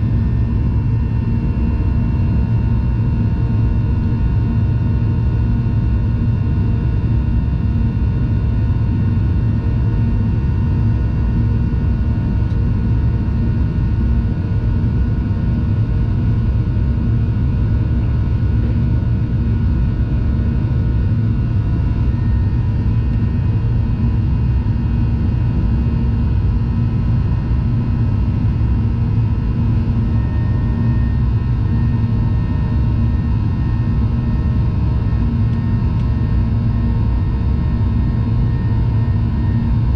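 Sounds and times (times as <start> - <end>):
jet engines and airflow rumble: 0.0 - 39.9.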